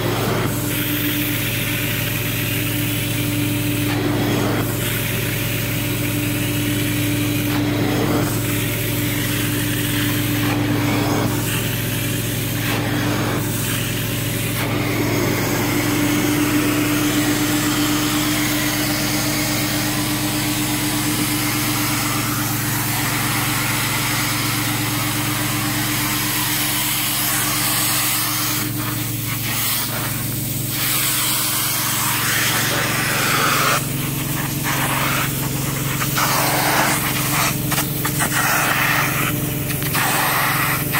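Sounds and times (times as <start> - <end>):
extraction cleaner hum: 0.0 - 40.9
suction and spray hissing: 0.0 - 40.9.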